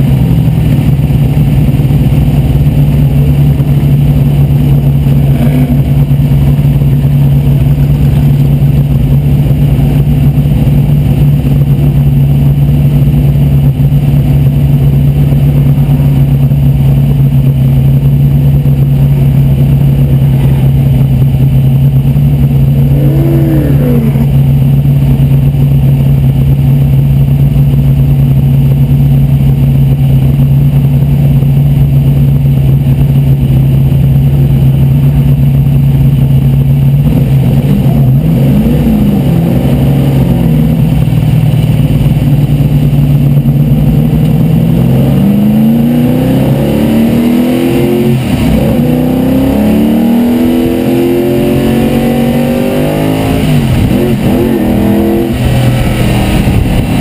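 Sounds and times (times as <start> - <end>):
race car engine idling and accelerating: 0.0 - 57.0.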